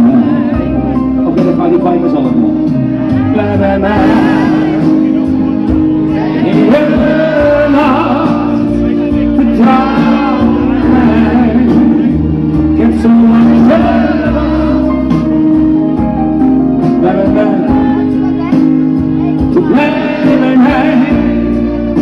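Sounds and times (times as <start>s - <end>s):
man singing into microphone: 0.0s - 15.3s, 16.8s - 18.4s, 19.4s - 22.0s
music backing track: 0.0s - 22.0s.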